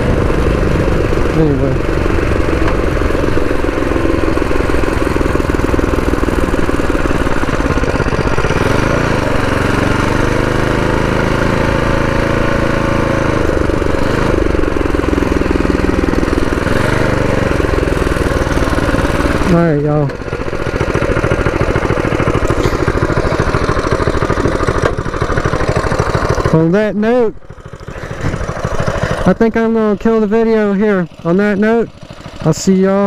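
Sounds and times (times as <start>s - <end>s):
mini bike engine revving: 0.0s - 33.0s.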